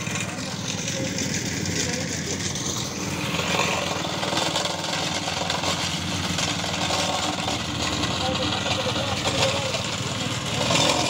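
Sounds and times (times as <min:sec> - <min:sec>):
plate compactor pulsing: 0:00.0 - 0:11.0.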